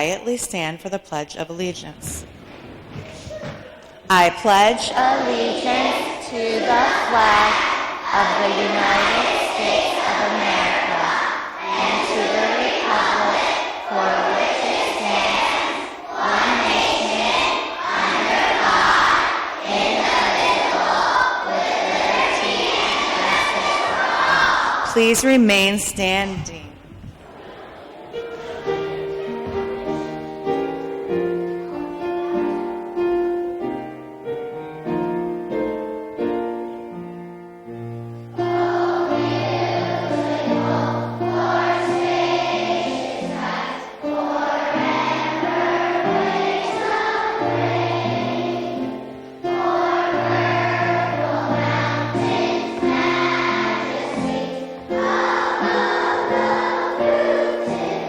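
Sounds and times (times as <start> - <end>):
choir singing: 3.7 - 25.4, 27.0 - 33.2, 38.3 - 58.0.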